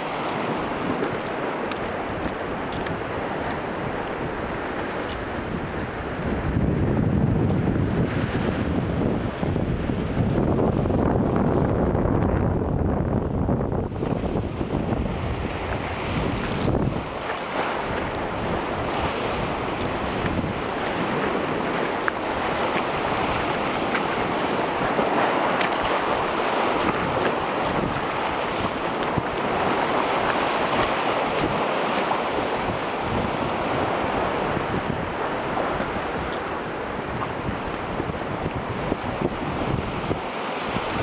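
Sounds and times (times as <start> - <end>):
waves washing over stony shore: 0.0 - 11.9, 12.9 - 41.0
wind rumbling on microphone: 0.0 - 41.0.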